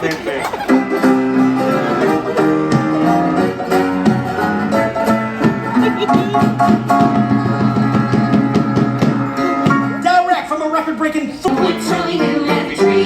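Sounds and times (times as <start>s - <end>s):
banjo playing: 0.0s - 10.1s, 11.5s - 13.0s.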